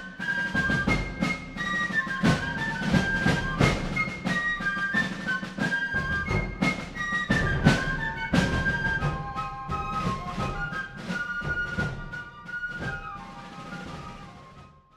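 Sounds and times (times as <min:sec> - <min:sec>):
drum strokes: 0:00.0 - 0:14.6.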